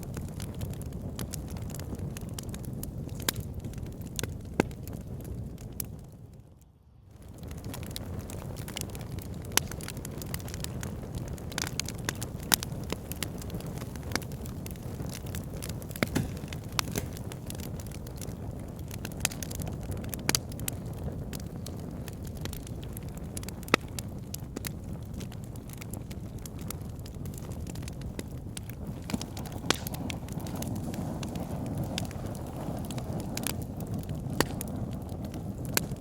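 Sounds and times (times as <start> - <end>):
fire crackling and popping: 0.0 - 36.0
low rush of flames: 0.0 - 36.0.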